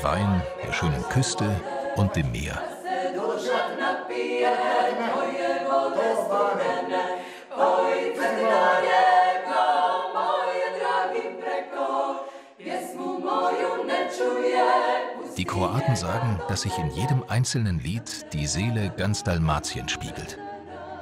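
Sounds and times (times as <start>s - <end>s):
women's choir singing a cappella: 0.0s - 21.0s.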